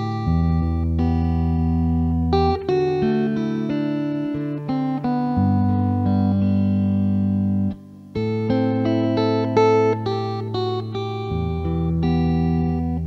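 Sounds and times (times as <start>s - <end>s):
electric guitar rock music: 0.0s - 13.0s.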